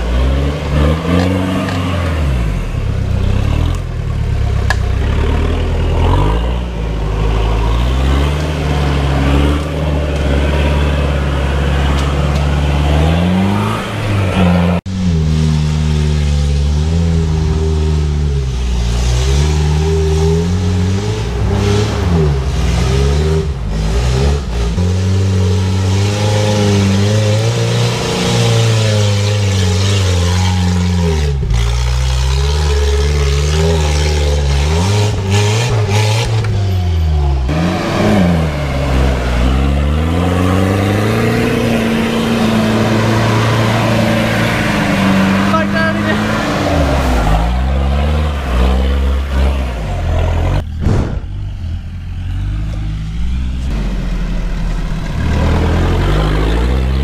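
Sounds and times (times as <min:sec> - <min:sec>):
off-road engines revving: 0:00.0 - 0:57.0.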